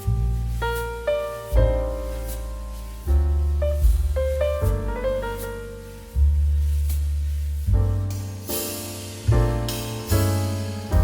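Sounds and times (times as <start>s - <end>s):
piano chords: 0.0s - 11.0s
strong bass: 0.0s - 11.0s.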